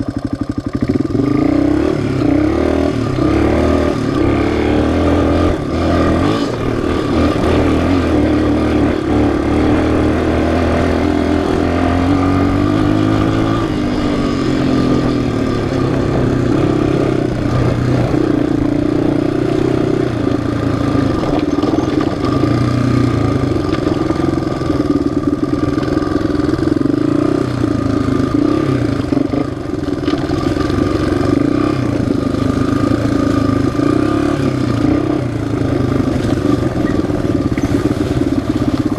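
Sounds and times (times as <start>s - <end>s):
off-road engine running: 0.0s - 38.9s.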